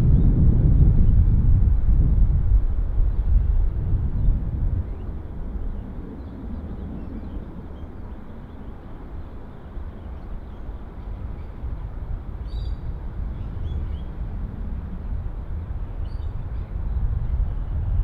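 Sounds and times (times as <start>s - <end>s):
distant airliner rumble: 0.0s - 18.0s.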